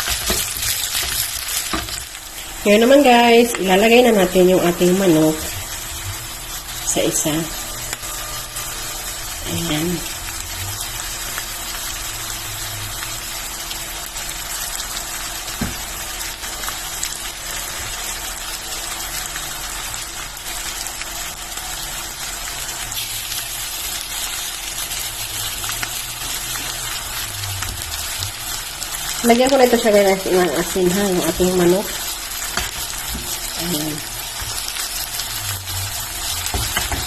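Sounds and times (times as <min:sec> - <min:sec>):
meat sizzling in a frying pan: 0:00.0 - 0:37.0.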